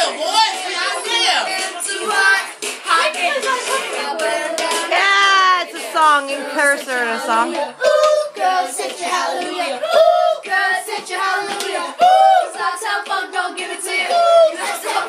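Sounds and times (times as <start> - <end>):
boys singing: 0.0 - 15.0.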